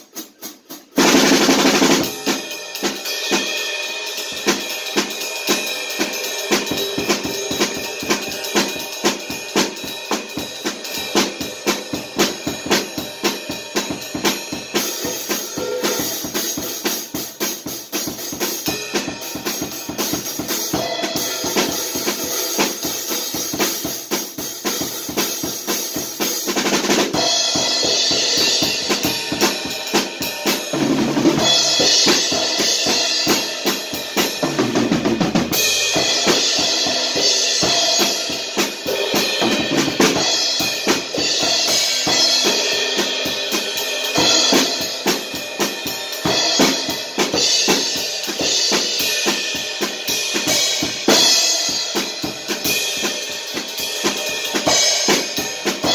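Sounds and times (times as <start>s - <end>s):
drum kit groove: 0.0s - 55.9s.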